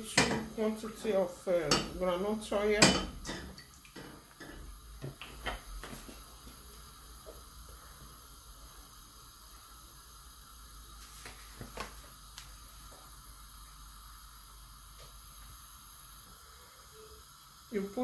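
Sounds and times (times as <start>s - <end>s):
gas burner hissing: 0.0s - 18.0s.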